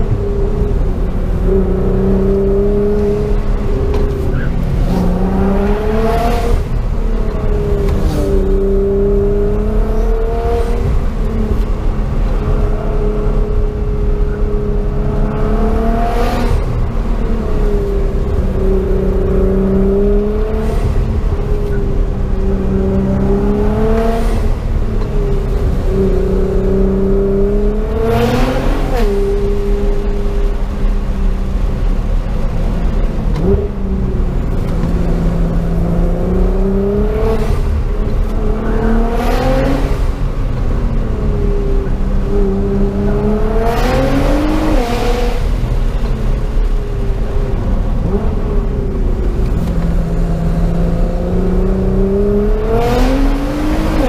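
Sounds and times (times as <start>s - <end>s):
car engine accelerating: 0.0s - 54.0s
low road rumble: 0.0s - 54.0s.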